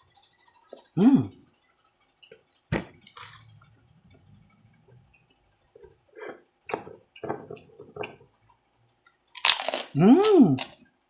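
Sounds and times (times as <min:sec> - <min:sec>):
soft chewing: 0:00.0 - 0:10.9.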